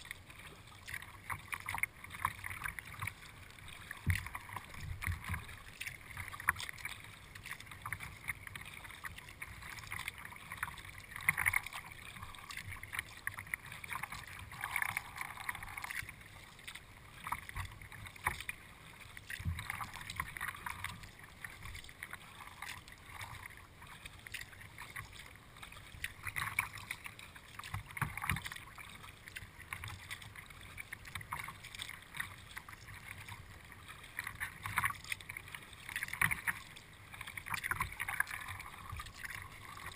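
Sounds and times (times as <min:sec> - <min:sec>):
paddle splashes: 0:00.0 - 0:39.9
water lapping against hull: 0:00.0 - 0:39.9.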